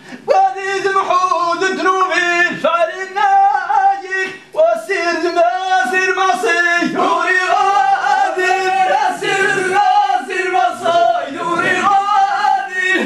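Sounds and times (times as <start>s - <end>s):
men chanting long notes: 0.3s - 13.0s.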